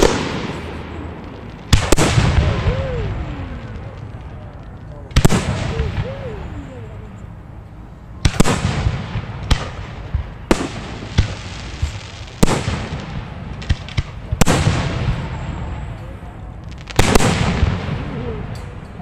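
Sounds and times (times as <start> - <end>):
fireworks booming: 0.0 - 19.0.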